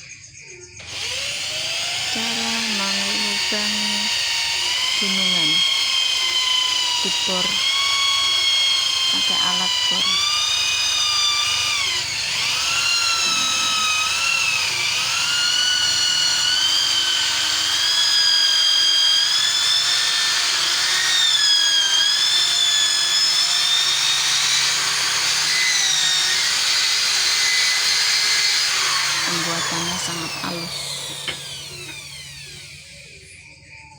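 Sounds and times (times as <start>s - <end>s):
electric drill whining: 0.8s - 33.9s.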